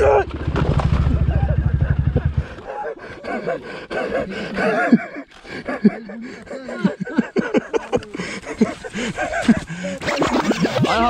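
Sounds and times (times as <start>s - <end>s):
people laughing hard: 1.0s - 11.0s.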